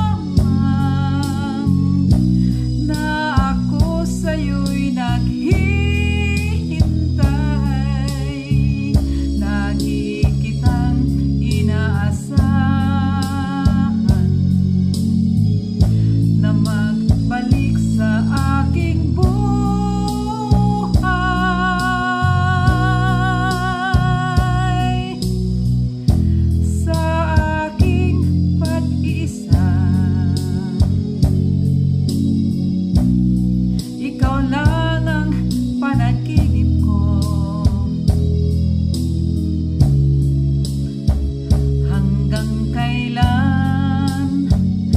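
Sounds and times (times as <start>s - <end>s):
woman singing a ballad: 0.0s - 31.4s, 33.8s - 38.3s, 41.8s - 44.9s
instrumental backing music: 0.0s - 44.9s.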